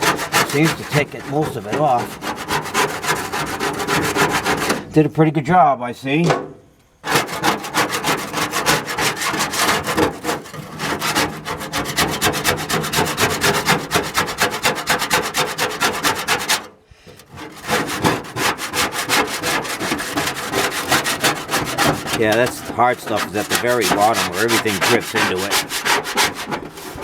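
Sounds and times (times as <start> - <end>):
scraper scraping metal pan: 0.0 - 5.0, 7.0 - 27.0.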